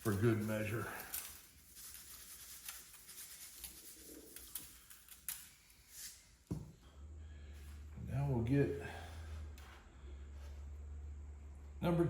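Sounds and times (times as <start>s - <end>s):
soft scratching and rubbing: 0.0s - 6.4s, 7.5s - 11.2s.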